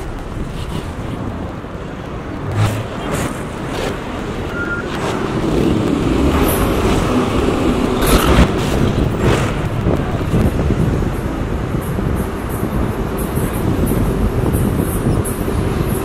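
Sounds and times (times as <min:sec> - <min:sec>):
diesel trucks rumbling: 0:00.0 - 0:15.9.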